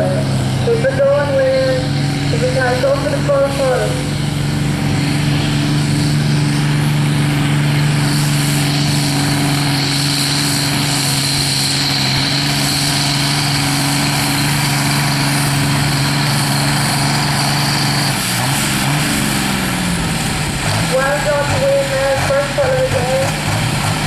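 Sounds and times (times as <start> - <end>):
diesel tractor engine under load: 0.0 - 24.0.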